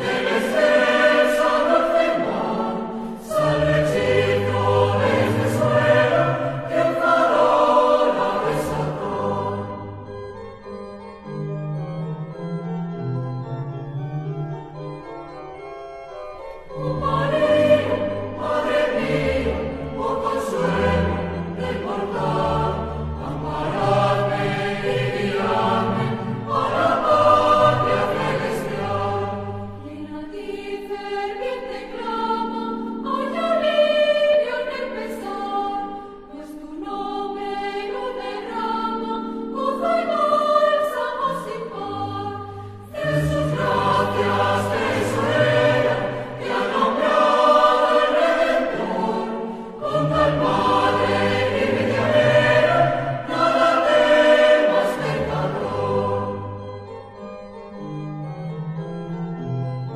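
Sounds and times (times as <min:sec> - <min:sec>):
choir singing long held notes: 0:00.0 - 0:10.2, 0:16.6 - 0:58.0.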